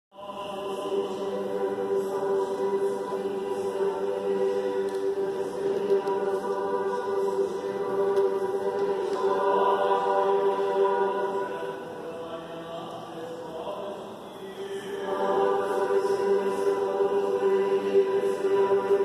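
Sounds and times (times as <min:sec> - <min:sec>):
choir singing a slow chant: 0:00.1 - 0:19.0.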